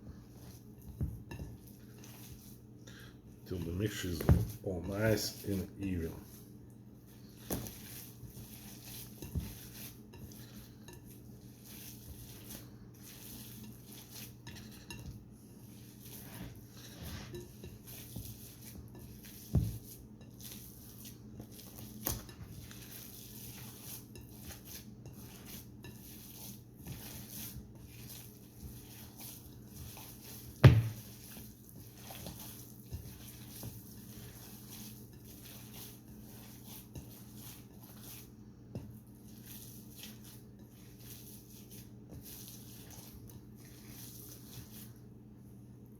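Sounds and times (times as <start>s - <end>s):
mixing clicks and scrapes in bowl: 0.0s - 45.6s.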